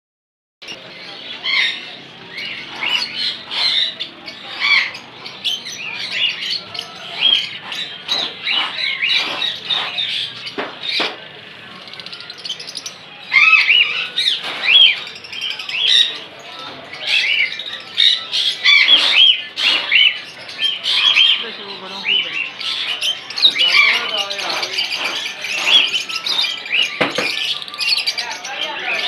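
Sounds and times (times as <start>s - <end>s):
parrots squawking and chirping: 0.7s - 29.0s.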